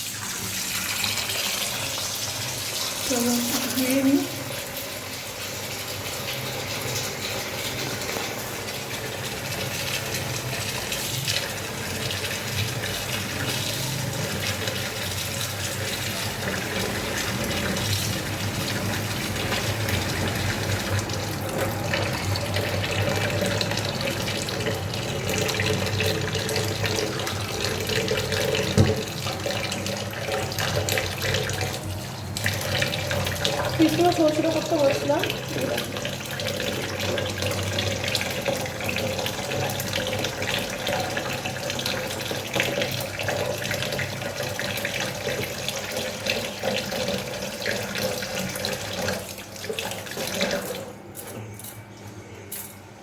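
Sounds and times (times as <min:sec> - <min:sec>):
tap water running into sink: 0:00.0 - 0:51.0.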